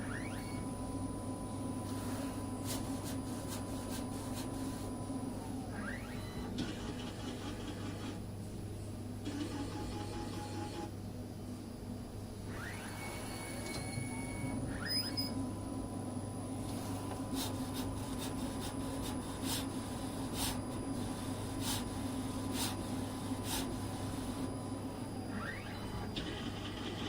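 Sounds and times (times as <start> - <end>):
fan hum: 0.0 - 9.3, 14.5 - 27.0.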